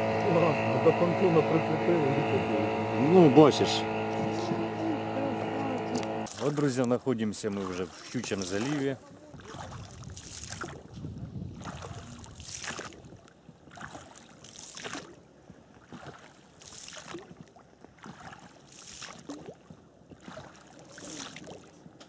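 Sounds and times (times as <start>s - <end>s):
oars splashing in water: 3.8s - 22.0s.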